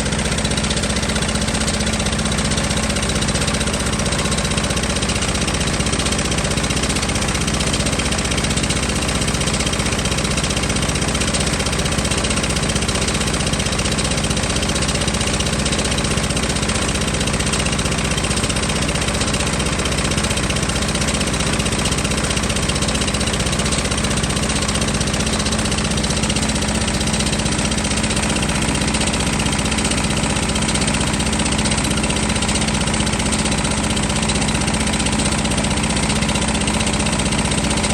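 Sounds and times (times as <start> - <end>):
engine running steadily: 0.0 - 37.9.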